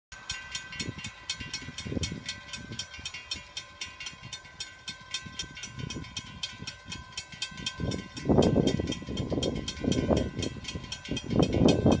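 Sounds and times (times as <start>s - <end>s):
crossing warning bell ringing: 0.1s - 12.0s
low gusty rumble: 0.7s - 12.0s.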